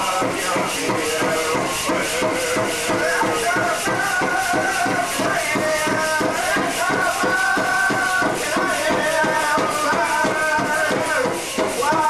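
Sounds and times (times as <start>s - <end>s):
big drum steady beat: 0.0s - 12.0s
voices singing high chant: 0.0s - 12.0s.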